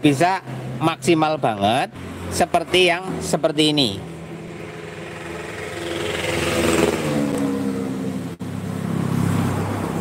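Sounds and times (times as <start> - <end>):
vehicle engine passing: 0.0 - 10.0.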